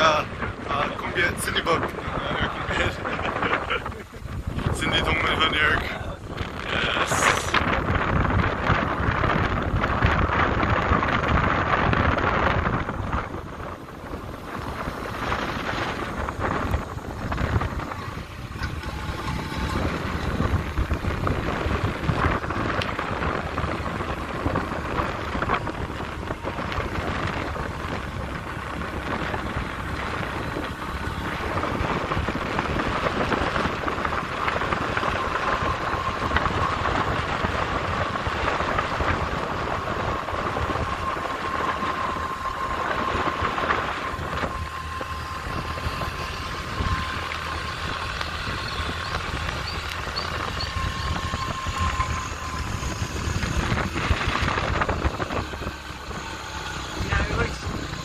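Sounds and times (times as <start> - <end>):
wind rushing over microphone: 0.0 - 58.0
faint steady whine: 0.8 - 58.0
motorbike engine running: 6.3 - 58.0.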